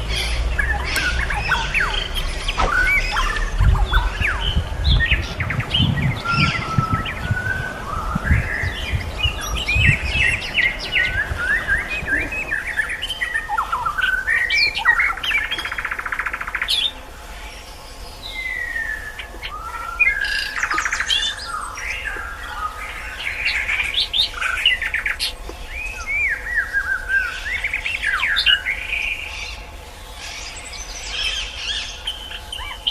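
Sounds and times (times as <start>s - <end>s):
birds singing: 0.0s - 32.9s
fast buzzy bird trill: 0.0s - 32.9s.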